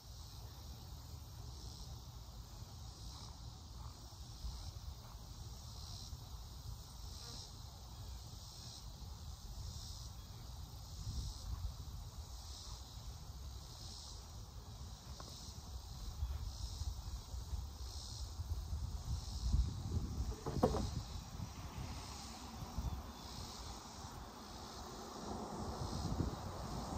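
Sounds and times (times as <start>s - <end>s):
insects calling in chorus: 0.0s - 26.9s.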